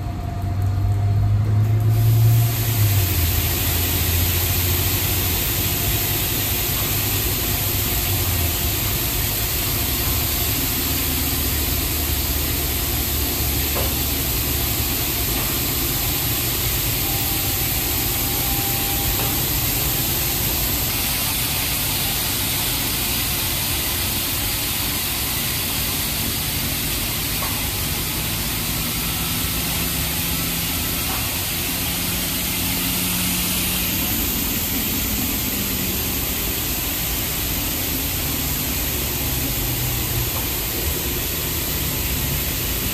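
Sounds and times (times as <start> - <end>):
car wash spray hissing: 1.6 - 42.9.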